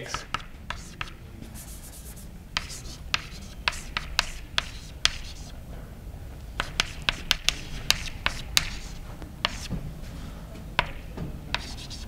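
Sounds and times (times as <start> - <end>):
chalk tapping on a blackboard: 0.0 - 5.5, 6.6 - 9.8, 10.8 - 12.0.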